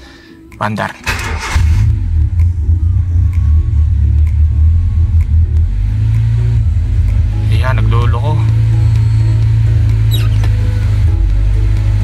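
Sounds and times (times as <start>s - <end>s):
car engine starting and idling: 1.0s - 12.0s.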